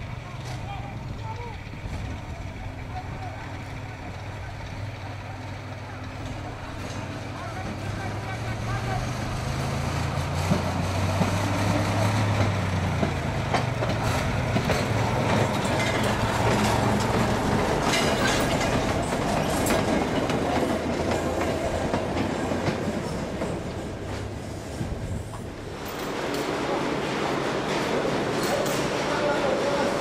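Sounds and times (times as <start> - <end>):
wagon wheels clattering on rails: 0.0 - 26.7
lorry engine humming low: 0.0 - 30.0.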